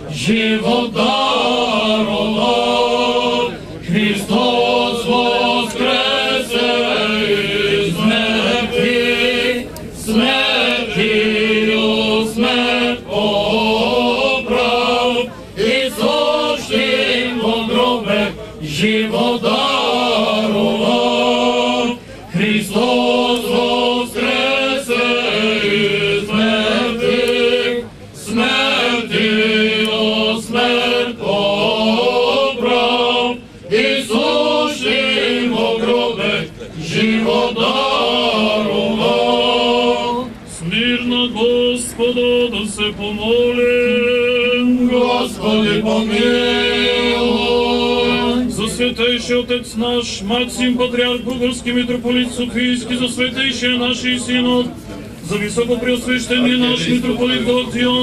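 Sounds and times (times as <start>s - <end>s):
choir chanting: 0.1s - 49.1s.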